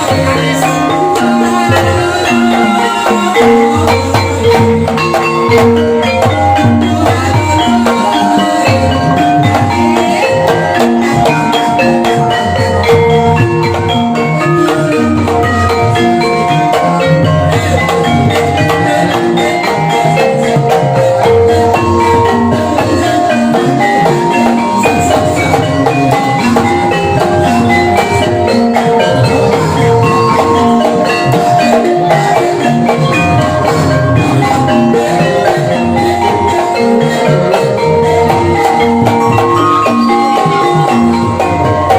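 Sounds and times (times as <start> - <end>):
gamelan music: 0.0 - 41.9.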